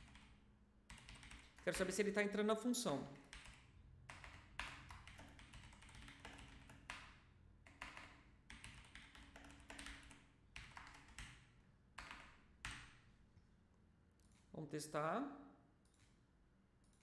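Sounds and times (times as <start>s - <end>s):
faint keyboard typing: 0.0s - 2.0s, 3.1s - 13.5s, 14.1s - 14.6s, 15.8s - 17.0s.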